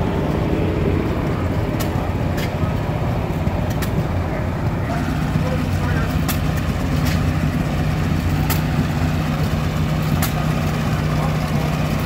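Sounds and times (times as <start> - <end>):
sharp engine clicks: 0.0 - 4.3, 5.0 - 12.0
stationary engines humming: 0.0 - 12.0.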